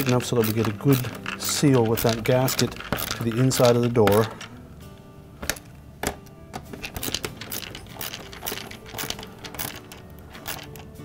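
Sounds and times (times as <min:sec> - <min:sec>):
nut driver clicking on screws: 0:00.0 - 0:04.6, 0:05.4 - 0:11.0
faint background music: 0:00.0 - 0:11.0.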